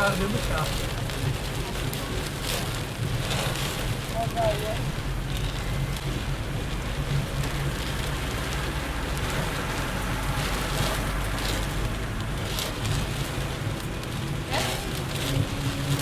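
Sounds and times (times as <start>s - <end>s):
heavy rain on a car: 0.0s - 16.0s
road and engine rumble: 0.0s - 16.0s.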